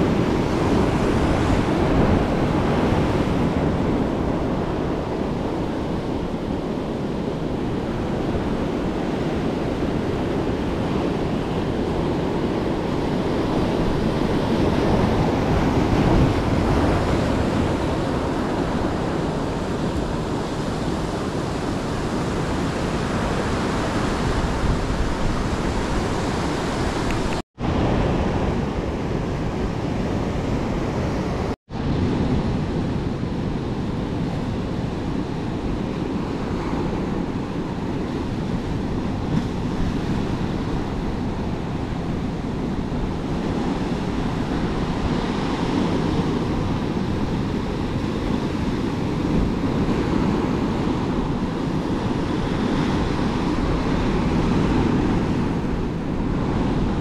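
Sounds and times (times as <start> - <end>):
ocean surf washing onto beach: 0.0 - 57.0
wind on microphone: 0.0 - 57.0.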